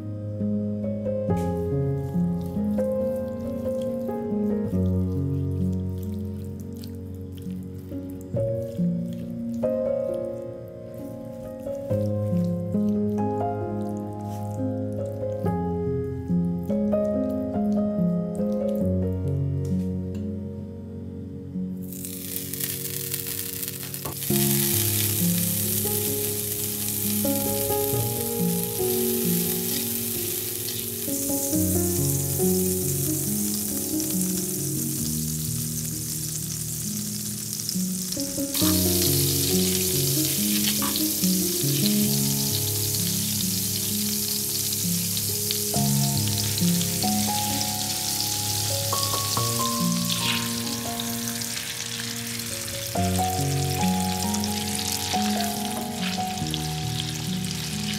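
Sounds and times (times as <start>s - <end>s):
light background music: 0.0s - 57.9s
butter sizzling in frying pan: 1.4s - 18.6s, 21.8s - 57.9s.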